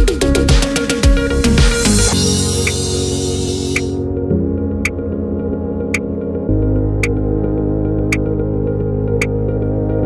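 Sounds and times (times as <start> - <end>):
synthesizer chords: 0.0 - 10.0.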